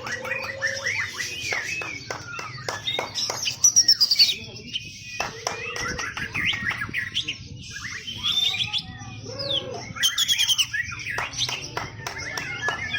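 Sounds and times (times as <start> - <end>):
songbirds chirping and trilling: 0.0 - 12.9.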